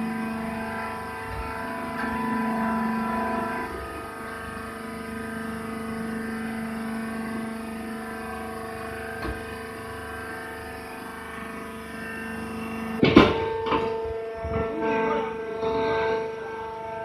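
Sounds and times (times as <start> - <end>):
baler motor and pump humming: 0.0 - 17.0.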